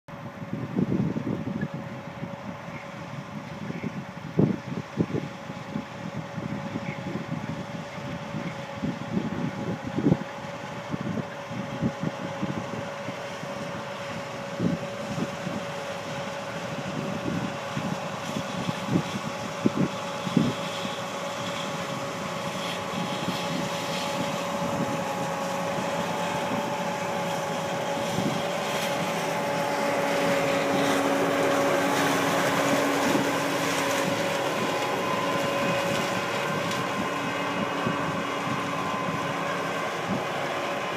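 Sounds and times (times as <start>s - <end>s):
vehicle engine whine: 0.0s - 40.9s
wind on microphone: 0.1s - 40.9s.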